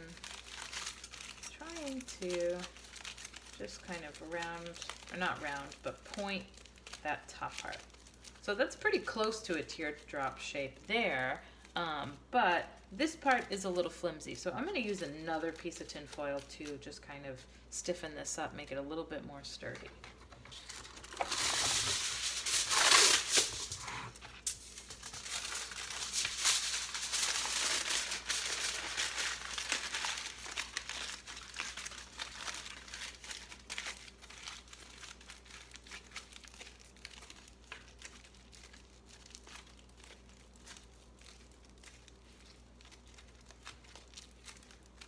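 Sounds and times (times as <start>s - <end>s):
aluminium foil crinkling: 0.0s - 17.2s, 19.6s - 45.0s.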